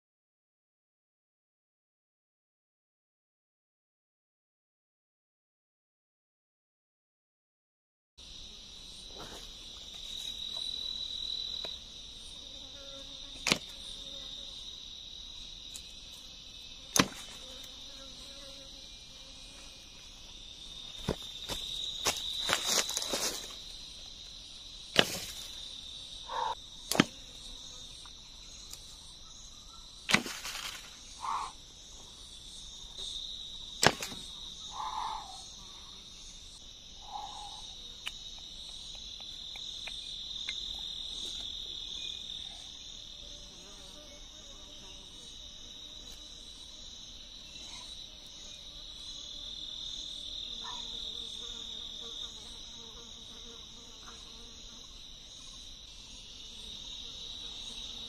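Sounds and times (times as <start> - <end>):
insect chorus buzzing: 8.2 - 58.0.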